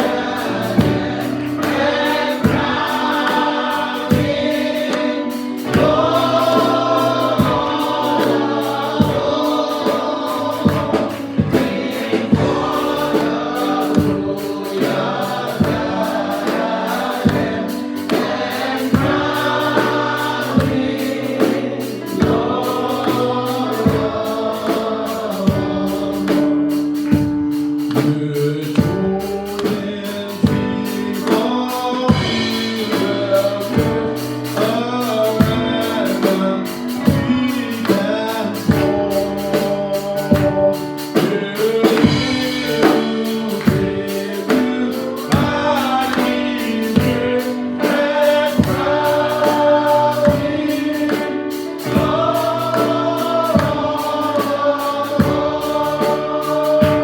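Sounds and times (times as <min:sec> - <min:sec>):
band playing: 0:00.0 - 0:57.0
drum beat: 0:00.0 - 0:57.0
gospel choir singing: 0:00.0 - 0:57.0.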